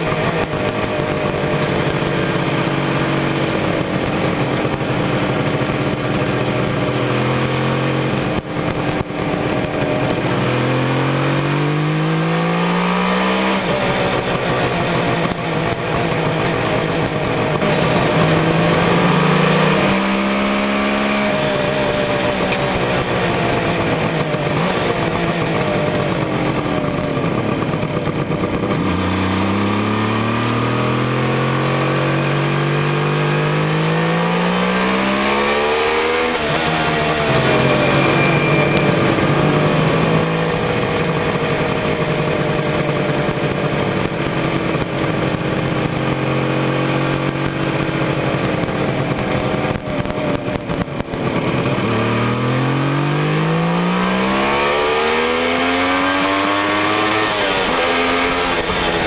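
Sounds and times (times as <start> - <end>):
motorcycle engine under way: 0.0 - 59.0.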